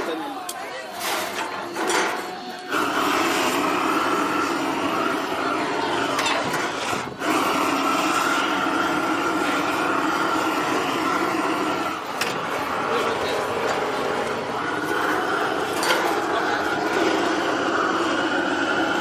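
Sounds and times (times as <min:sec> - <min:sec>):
blowtorch flame hissing: 0:00.0 - 0:19.0.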